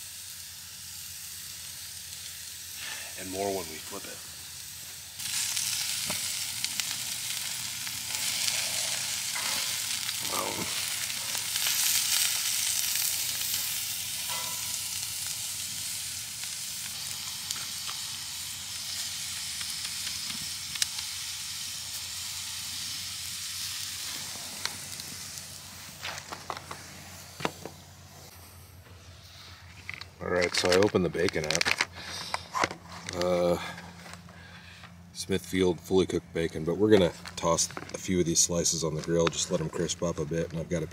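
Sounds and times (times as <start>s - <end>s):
patty sizzling on grill: 0.0s - 40.9s.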